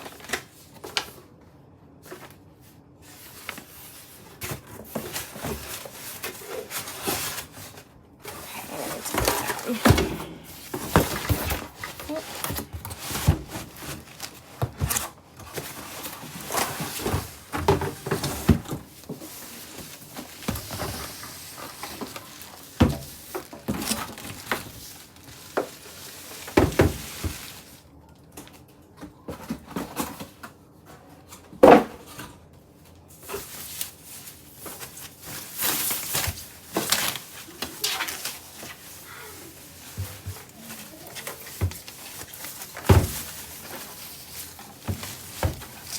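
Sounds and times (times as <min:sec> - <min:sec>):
cardboard packaging rustling: 0:00.0 - 0:01.4, 0:02.0 - 0:27.9, 0:33.1 - 0:45.9.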